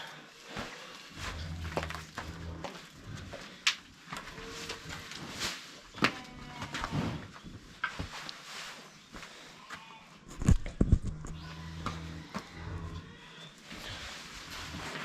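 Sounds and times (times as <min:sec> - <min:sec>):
knocks and scrapes in cow pen: 0:00.4 - 0:15.0.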